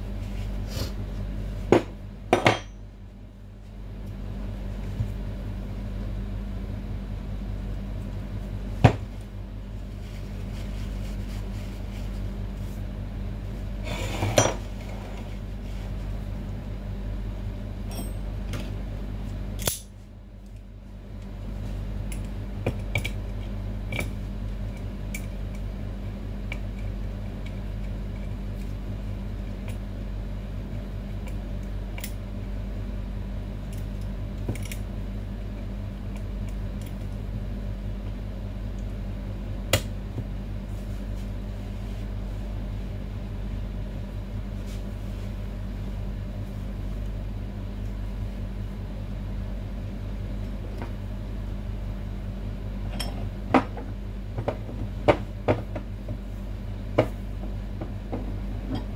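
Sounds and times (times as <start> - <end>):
steady hum: 0.0 - 58.9.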